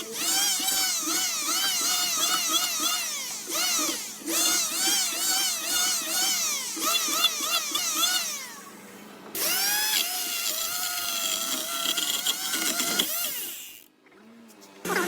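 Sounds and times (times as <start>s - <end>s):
power tool motor whining: 0.0s - 8.8s, 9.4s - 13.9s.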